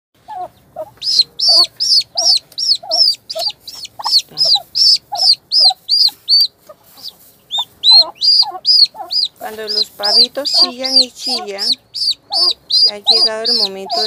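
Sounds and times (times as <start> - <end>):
fainter lower calls: 0.2 - 14.0
turkey poults peeping: 0.2 - 14.0.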